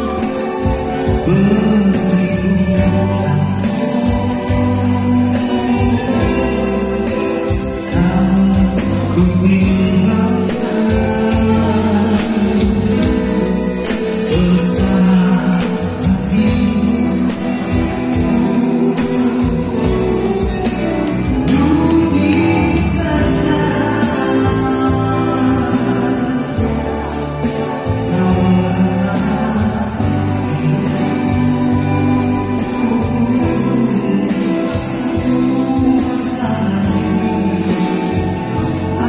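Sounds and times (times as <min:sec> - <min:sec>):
live band playing: 0:00.0 - 0:39.0
tambourine shaken in a beat: 0:00.0 - 0:39.0.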